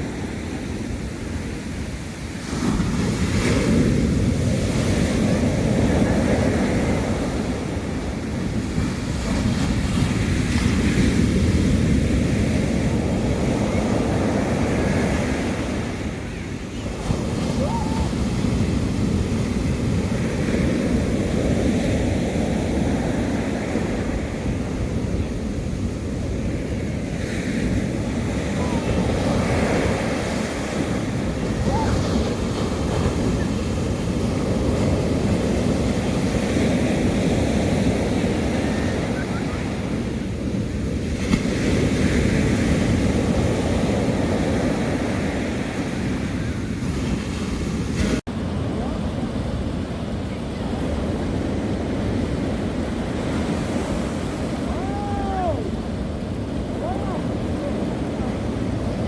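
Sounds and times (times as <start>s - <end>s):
sea waves washing onto beach: 0.0s - 59.0s
wind buffeting microphone: 0.0s - 59.0s.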